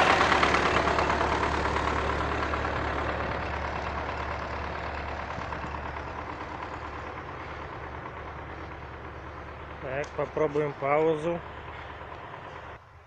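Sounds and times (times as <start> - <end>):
heavy diesel engine running: 0.0 - 12.8.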